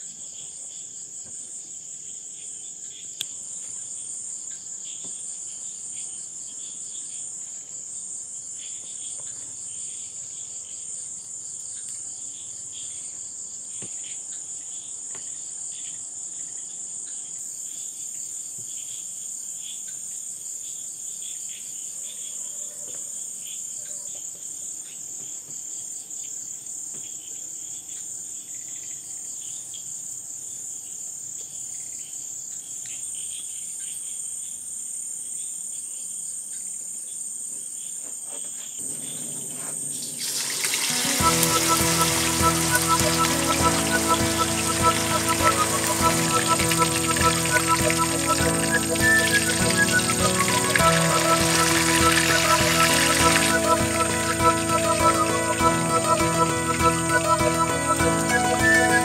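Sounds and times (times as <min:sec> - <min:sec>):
insects trilling: 0:00.0 - 0:55.2
insects chirping: 0:00.0 - 0:59.0.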